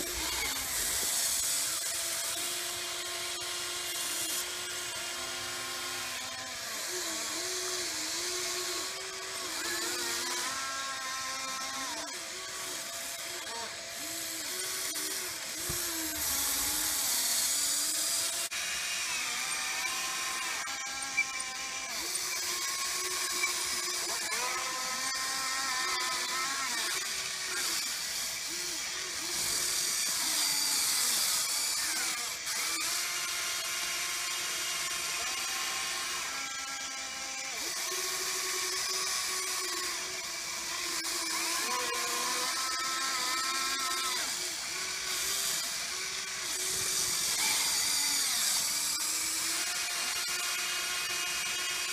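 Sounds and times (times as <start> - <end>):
small electric motors whining: 0.0 - 51.9.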